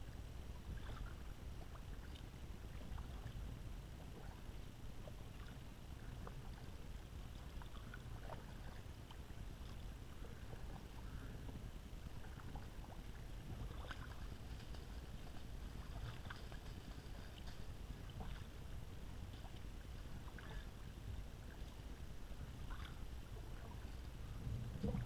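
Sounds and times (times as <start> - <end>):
steady low rumble: 0.0 - 25.0
paddle splashing water: 0.6 - 25.0.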